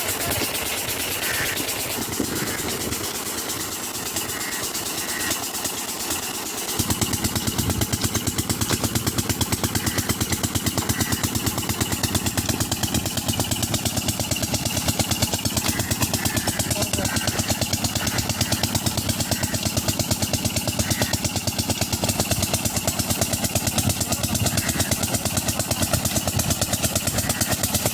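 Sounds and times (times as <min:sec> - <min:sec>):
diesel engine pulsing: 0:00.0 - 0:27.9.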